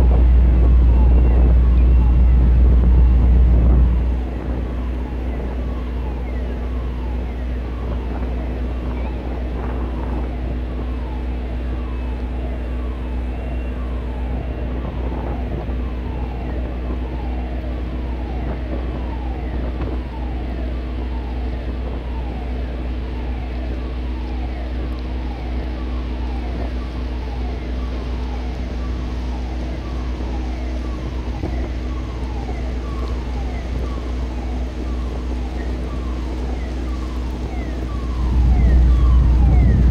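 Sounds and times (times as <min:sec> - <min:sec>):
low machinery rumble and hum: 0:00.0 - 0:39.9.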